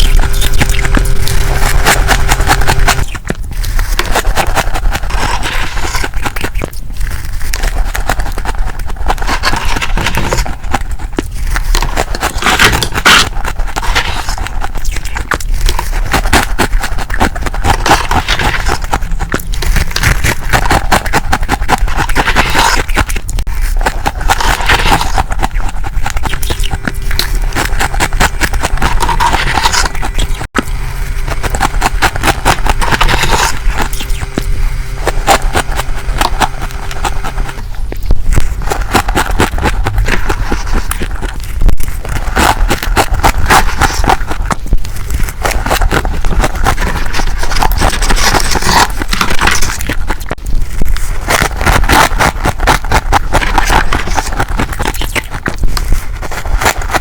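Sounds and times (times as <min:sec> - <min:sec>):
frost being scraped and crunched: 0:00.0 - 0:57.0.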